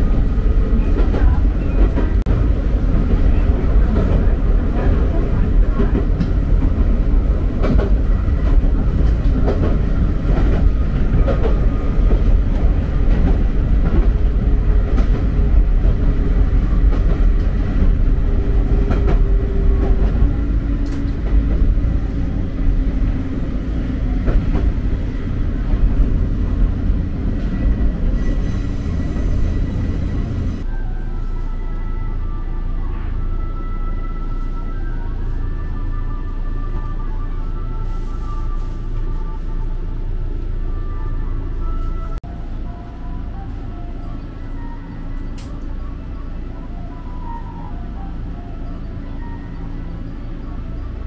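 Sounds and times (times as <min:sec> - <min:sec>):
electric train rumble: 0:00.0 - 0:51.0.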